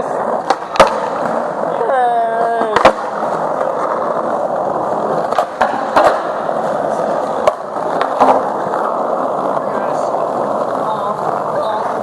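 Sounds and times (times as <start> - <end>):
skateboard wheels rolling on pavement: 0.0 - 12.0
skateboard knocks: 0.3 - 1.6, 2.4 - 12.0.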